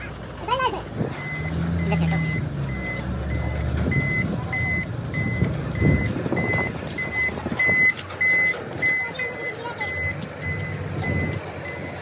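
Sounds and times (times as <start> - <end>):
low engine rumble: 0.0 - 12.0
vehicle alarm beeping: 1.1 - 12.0.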